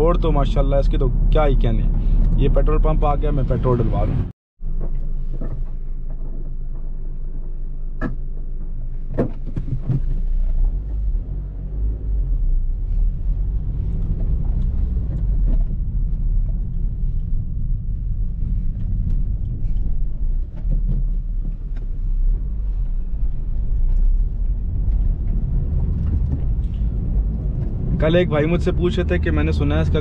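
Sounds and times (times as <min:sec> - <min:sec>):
car cabin rumble: 0:00.0 - 0:30.0.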